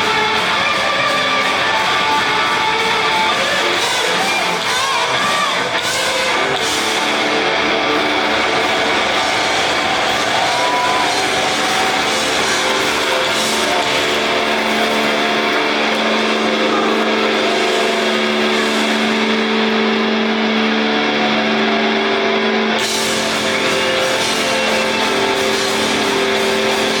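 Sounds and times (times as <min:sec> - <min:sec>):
rock music: 0:00.0 - 0:27.0.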